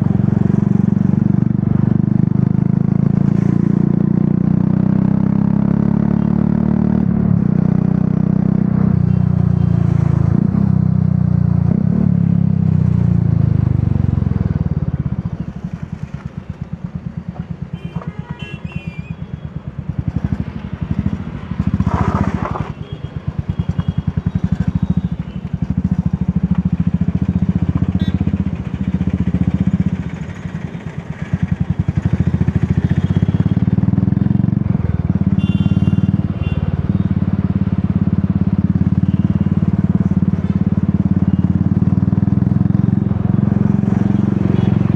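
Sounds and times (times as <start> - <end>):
motorcycle engine: 0.0 - 18.5, 19.7 - 44.9.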